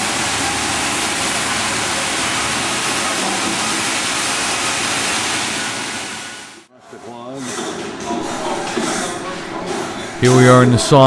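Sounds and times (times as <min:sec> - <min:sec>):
sawmill machinery rushing: 0:00.0 - 0:11.0.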